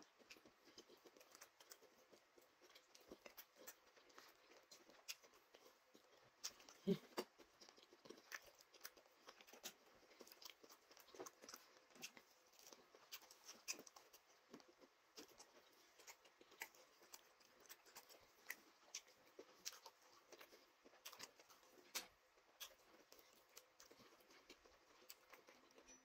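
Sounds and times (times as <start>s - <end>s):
faint wet chewing: 0.0s - 26.0s.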